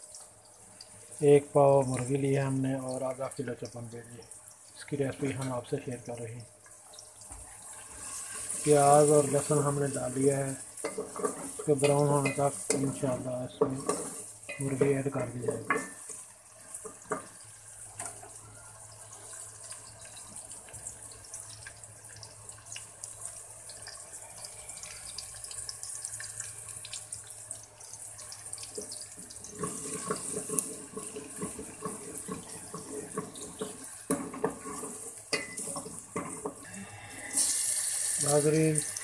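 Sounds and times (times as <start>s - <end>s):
onion sizzling in hot oil: 0.0s - 39.0s.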